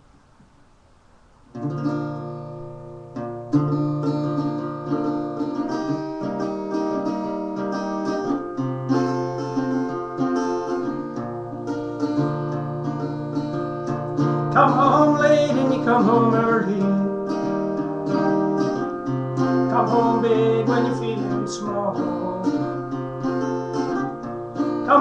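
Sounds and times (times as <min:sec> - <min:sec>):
acoustic guitar strumming: 0:01.5 - 0:25.0.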